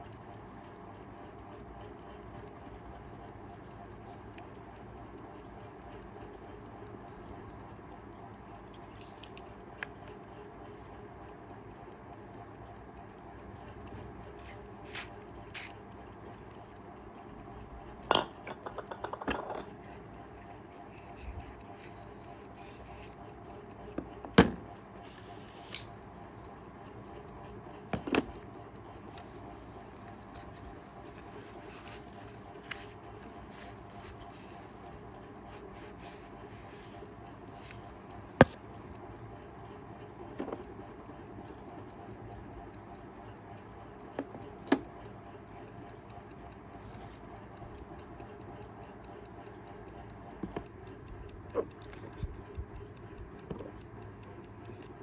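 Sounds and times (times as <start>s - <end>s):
clock ticking faintly: 0.0s - 55.0s.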